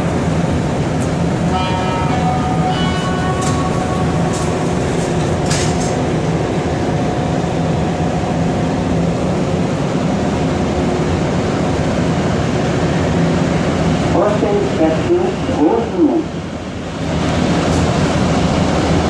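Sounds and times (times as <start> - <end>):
subway car rumble and whine: 0.0 - 19.0.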